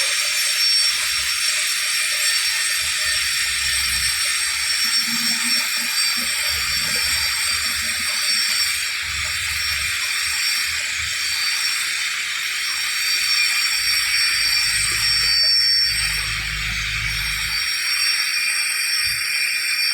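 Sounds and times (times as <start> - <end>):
thin high steady tones: 2.3 - 19.9.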